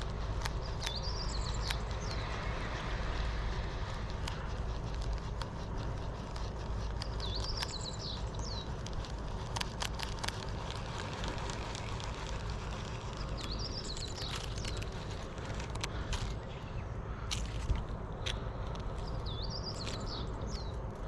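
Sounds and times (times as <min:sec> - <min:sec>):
clicks and crackles: 0:00.0 - 0:21.0
low rumble: 0:00.0 - 0:21.0.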